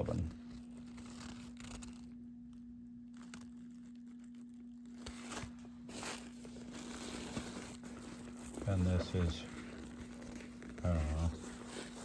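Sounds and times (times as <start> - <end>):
leather rustling and crinkling: 0.0 - 12.0
low electrical hum: 0.0 - 12.0.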